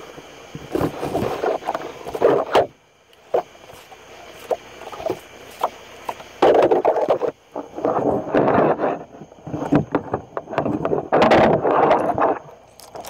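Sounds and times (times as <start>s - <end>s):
wet rustling and scraping: 0.5s - 13.0s.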